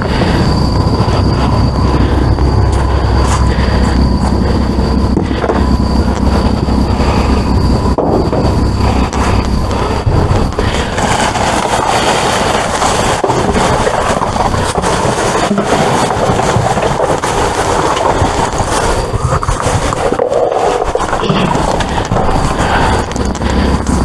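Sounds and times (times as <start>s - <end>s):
plastic bags and bubble wrap rustling: 0.0s - 24.0s.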